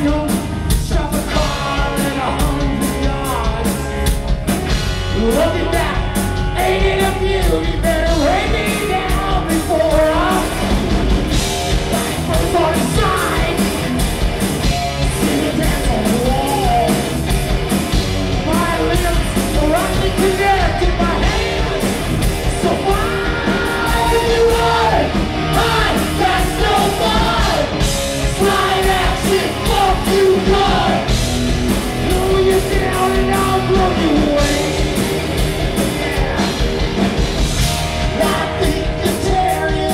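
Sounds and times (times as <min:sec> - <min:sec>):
singer singing: 0:00.0 - 0:04.3, 0:05.0 - 0:10.9, 0:11.9 - 0:13.8, 0:14.9 - 0:17.2, 0:18.3 - 0:31.3, 0:31.9 - 0:35.2, 0:35.8 - 0:36.8, 0:37.9 - 0:39.9
bass guitar: 0:00.0 - 0:39.9
drums: 0:00.0 - 0:39.9
electric guitar: 0:00.0 - 0:39.9.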